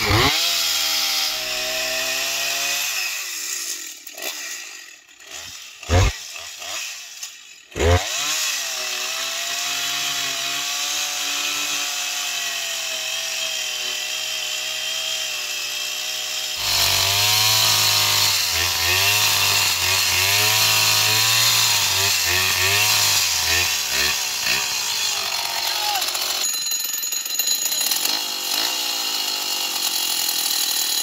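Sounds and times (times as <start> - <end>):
chainsaw cutting into log: 0.0 - 31.0.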